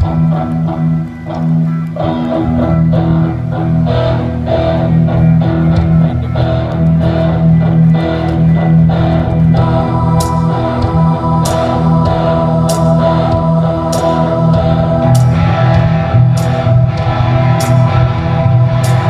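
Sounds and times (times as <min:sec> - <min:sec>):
bass line: 0:00.0 - 0:19.0
guitar chords: 0:00.0 - 0:19.0.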